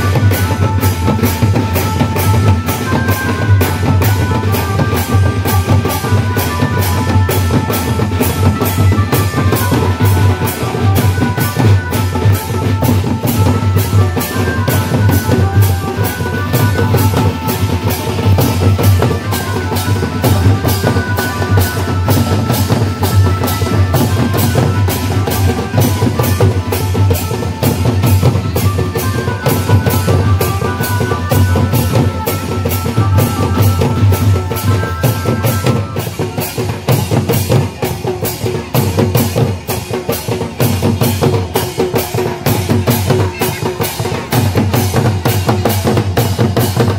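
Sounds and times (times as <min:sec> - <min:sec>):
drum band playing dance rhythm: 0:00.0 - 0:46.9.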